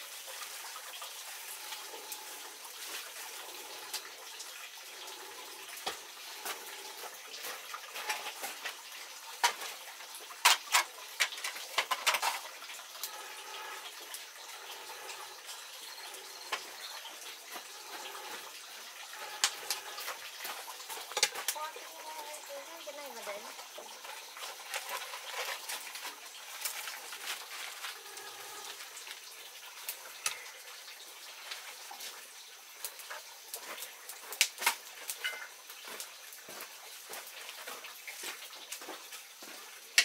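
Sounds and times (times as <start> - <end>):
pot bubbling and hissing: 0.0 - 40.0.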